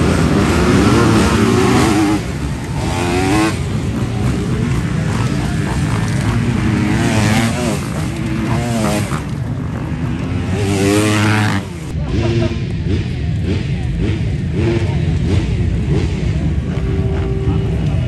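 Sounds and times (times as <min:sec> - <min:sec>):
motocross bikes revving: 0:00.0 - 0:18.0.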